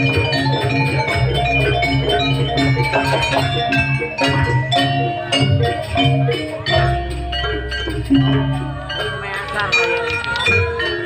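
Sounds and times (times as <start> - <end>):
steady drum beat: 0.0 - 11.0
struck metallophone notes: 0.0 - 11.0.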